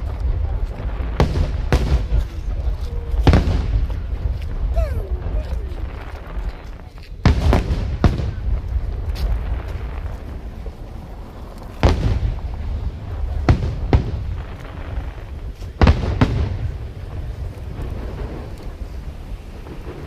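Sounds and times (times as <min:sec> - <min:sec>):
fireworks bangs: 0:00.0 - 0:20.0
rumble of echoing explosions: 0:00.0 - 0:20.0.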